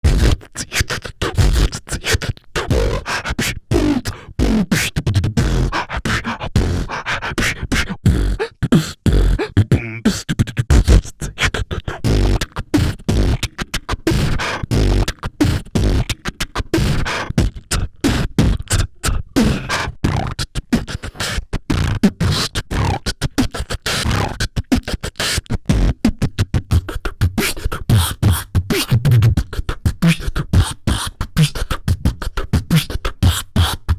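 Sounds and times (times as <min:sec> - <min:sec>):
beatboxing: 0:00.0 - 0:33.9.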